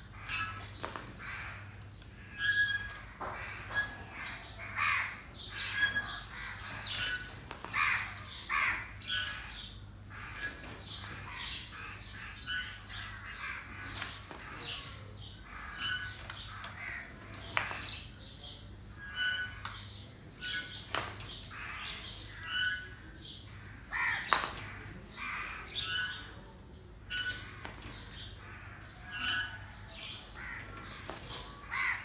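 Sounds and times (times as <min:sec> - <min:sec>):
birds harsh calls: 0:00.0 - 0:32.0.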